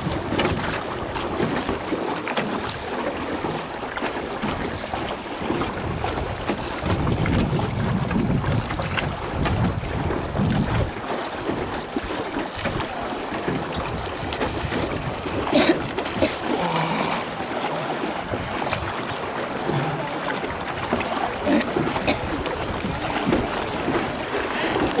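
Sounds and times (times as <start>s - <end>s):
oars splashing in water: 0.0s - 25.0s
water washing: 0.0s - 25.0s.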